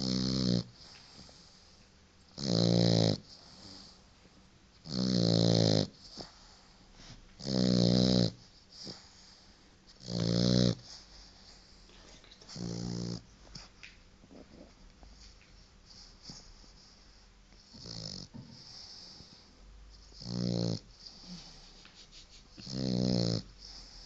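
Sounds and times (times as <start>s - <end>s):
puppy snoring: 0.0s - 4.0s, 4.8s - 13.7s, 14.3s - 24.0s.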